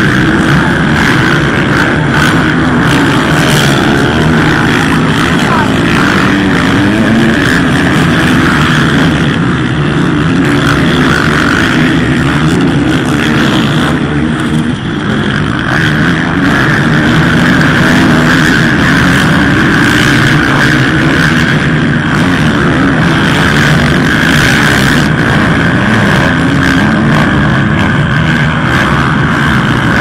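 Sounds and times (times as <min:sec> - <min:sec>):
motocross bikes racing: 0:00.0 - 0:30.0.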